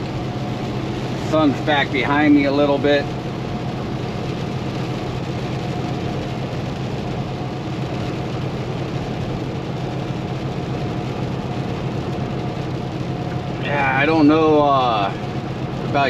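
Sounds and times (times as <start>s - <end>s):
diesel truck engine hum: 0.0s - 16.0s.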